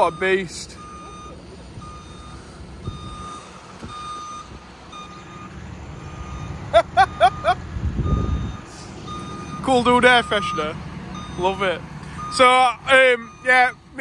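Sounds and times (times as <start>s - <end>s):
reversing alarm beeping: 0.0s - 13.9s.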